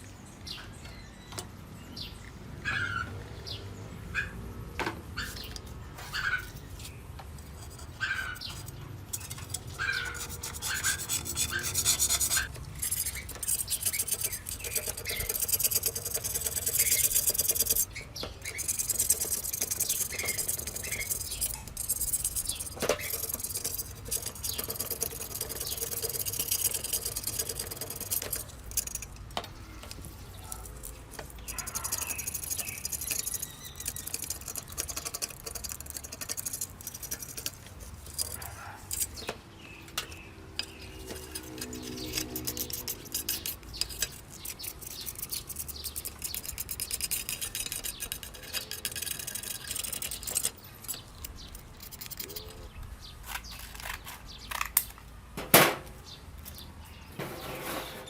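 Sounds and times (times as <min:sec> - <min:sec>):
hand scraping rusty metal: 0:05.0 - 0:58.0
small squeaks: 0:05.1 - 0:54.9, 0:56.0 - 0:58.0.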